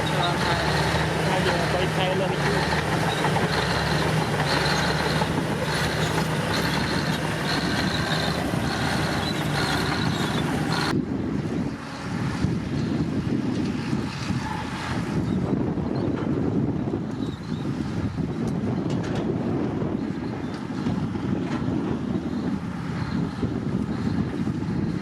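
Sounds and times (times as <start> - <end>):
bulldozer diesel engine under load: 0.0 - 25.0
wind on microphone: 0.0 - 25.0.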